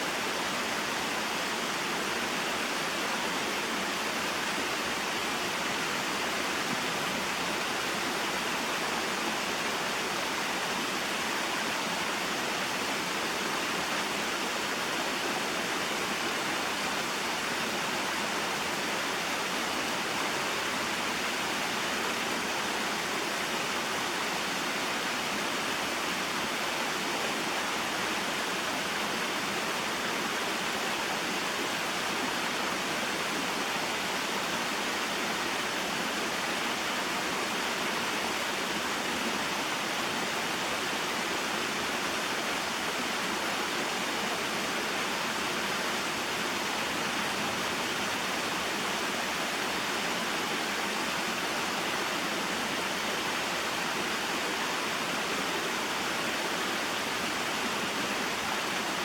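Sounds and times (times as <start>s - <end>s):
waterfall and stream flowing: 0.0s - 59.0s.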